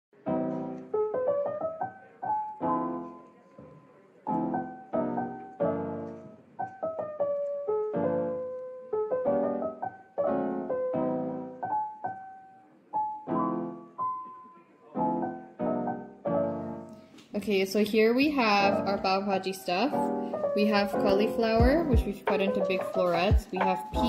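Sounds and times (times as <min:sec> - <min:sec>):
gentle piano tune: 0:00.2 - 0:24.0.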